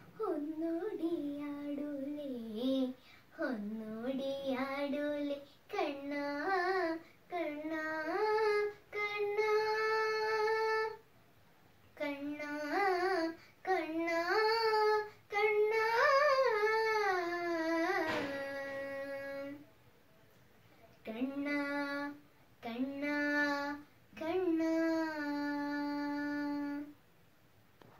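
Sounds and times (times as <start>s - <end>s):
girl singing unaccompanied: 0.0s - 11.1s, 11.8s - 19.8s, 20.8s - 27.1s.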